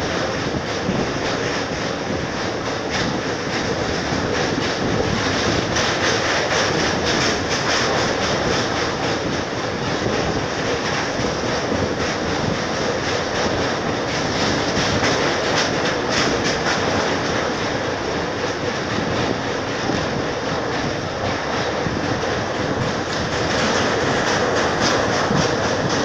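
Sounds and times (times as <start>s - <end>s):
train rumbling over rails: 0.0s - 26.0s.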